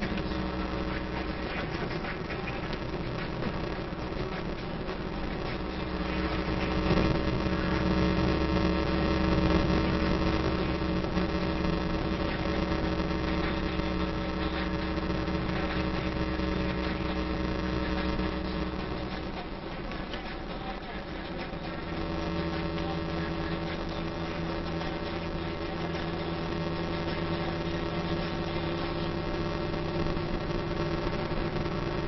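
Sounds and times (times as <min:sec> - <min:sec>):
car interior road drone: 0:00.0 - 0:32.0.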